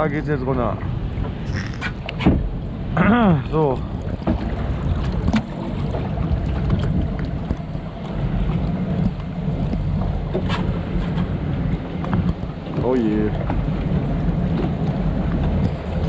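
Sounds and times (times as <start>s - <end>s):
boat hull rumbling: 0.0s - 16.0s
flowing water: 0.0s - 16.0s
wind on microphone: 0.0s - 16.0s.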